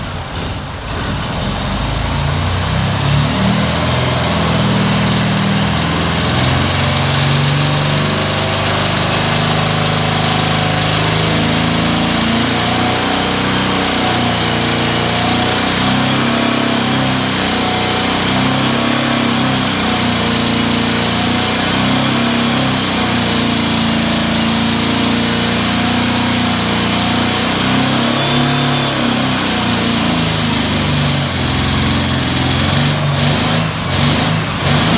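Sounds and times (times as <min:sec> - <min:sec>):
car engine running on a dyno: 0:00.0 - 0:34.9.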